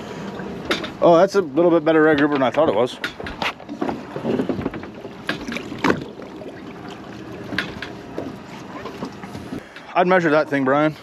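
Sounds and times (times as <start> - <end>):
water sloshing against boat: 0.0 - 11.0.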